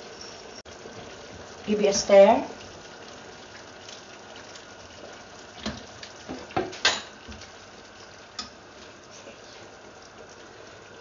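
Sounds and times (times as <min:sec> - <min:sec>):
sauce bubbling in a pan: 0:00.0 - 0:11.0.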